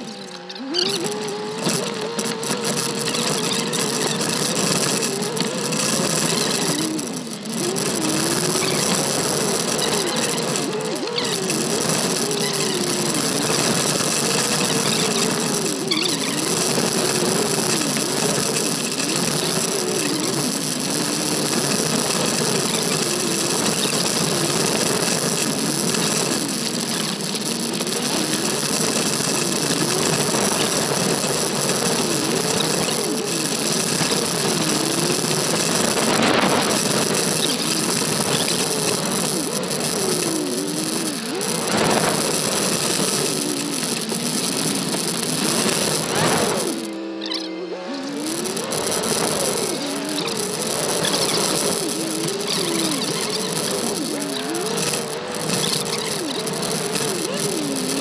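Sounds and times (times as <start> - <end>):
car engine on dirt trail: 0.0 - 58.0.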